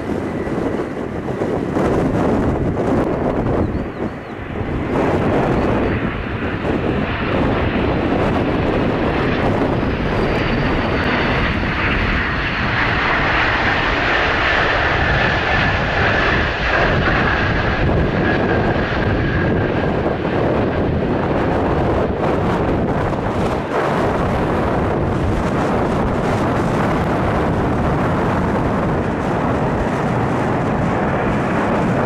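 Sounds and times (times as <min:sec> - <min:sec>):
jet engines whining on landing: 0:00.0 - 0:32.0.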